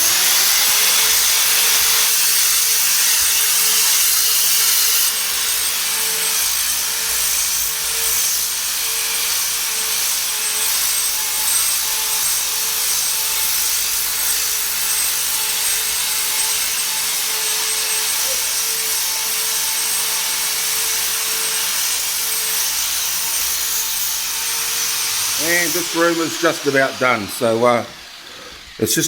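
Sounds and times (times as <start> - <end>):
orbital sander on wooden floor: 0.0 - 29.0.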